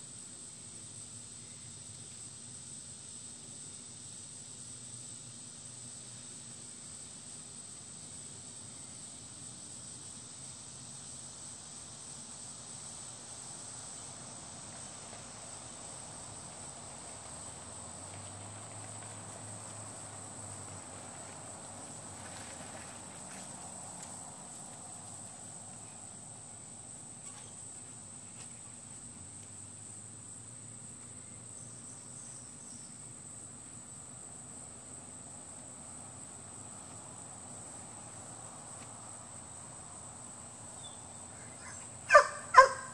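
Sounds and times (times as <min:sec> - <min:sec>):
faint outdoor background noise: 0:00.0 - 0:42.9
insects trilling: 0:00.0 - 0:42.9.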